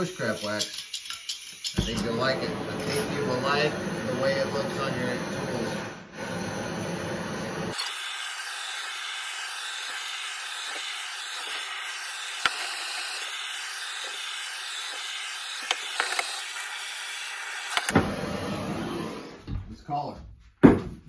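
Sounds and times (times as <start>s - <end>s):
propane torch hissing: 0.0s - 19.5s.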